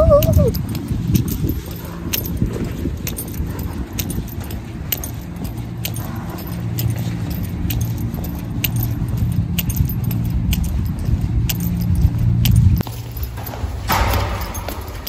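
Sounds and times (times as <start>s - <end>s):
wind rumble on microphone: 0.0s - 15.0s
light metallic clink: 0.1s - 15.0s.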